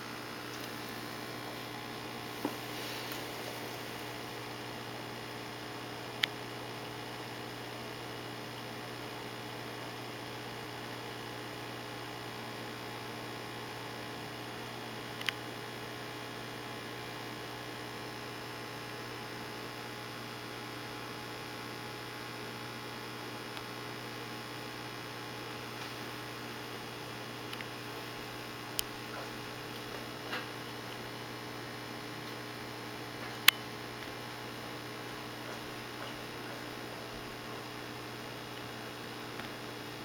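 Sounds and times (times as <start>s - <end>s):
aquarium equipment electrical hum: 0.0s - 40.0s.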